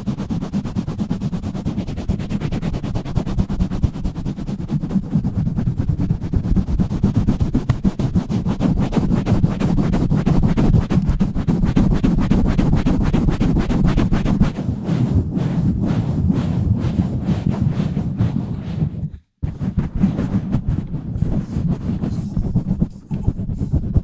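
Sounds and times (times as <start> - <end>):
hands rubbing on a microphone: 0.0 - 24.0.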